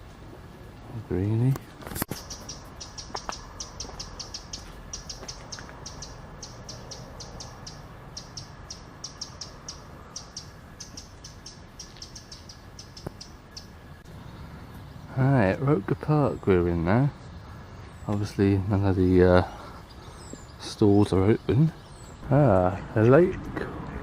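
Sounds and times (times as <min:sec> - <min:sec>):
small bird chirping: 0:02.0 - 0:22.6.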